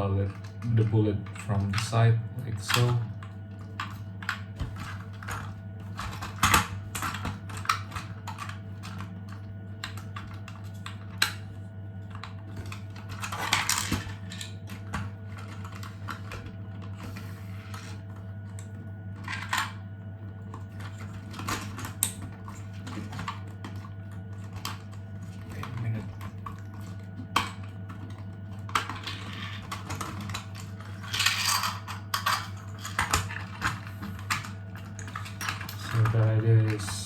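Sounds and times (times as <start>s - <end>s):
plastic parts scraping: 0.2s - 37.0s.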